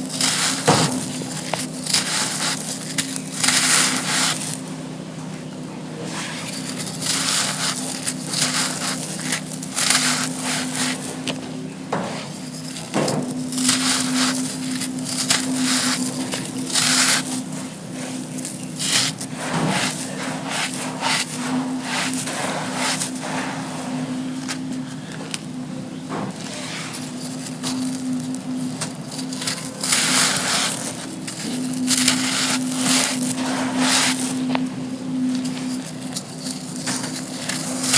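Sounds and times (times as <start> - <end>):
grainy sand crunches: 0.0 - 4.8, 6.2 - 11.4, 12.1 - 25.5, 26.4 - 37.9
steady low hum: 0.0 - 37.9.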